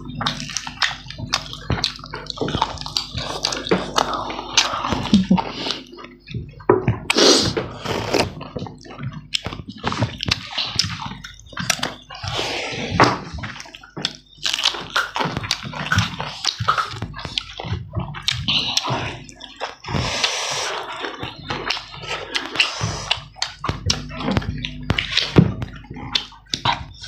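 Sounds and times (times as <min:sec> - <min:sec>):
chewing and lip-smacking: 0:00.0 - 0:27.0.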